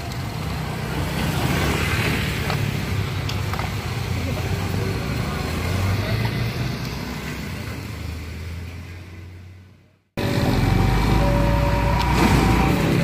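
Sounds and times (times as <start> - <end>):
motorcycle crossing rails: 0.0 - 13.0
truck engine rumbling: 0.0 - 13.0
vehicles passing: 0.0 - 13.0.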